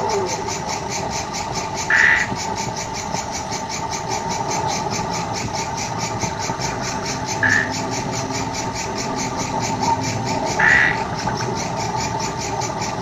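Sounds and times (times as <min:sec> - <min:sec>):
film projector ticking: 0:00.0 - 0:13.0
film soundtrack hum: 0:00.0 - 0:13.0.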